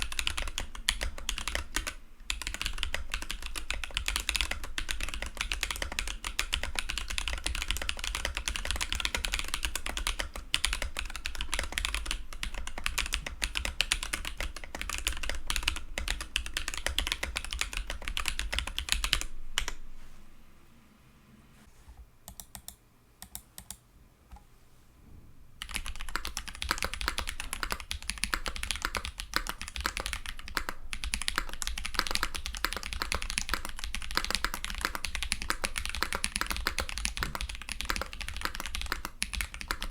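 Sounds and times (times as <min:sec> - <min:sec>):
fast mechanical keyboard typing: 0:00.0 - 0:19.8, 0:25.6 - 0:39.9.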